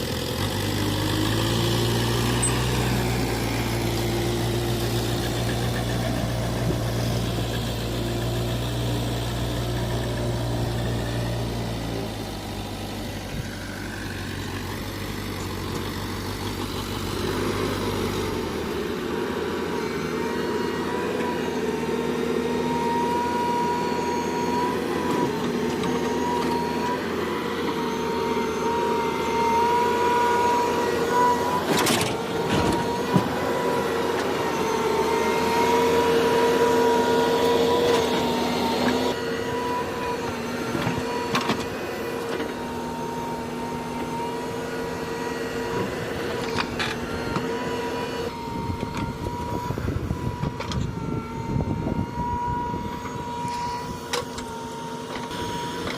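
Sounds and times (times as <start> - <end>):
diesel engine under load: 0.0 - 55.9
steady whine: 2.3 - 55.9.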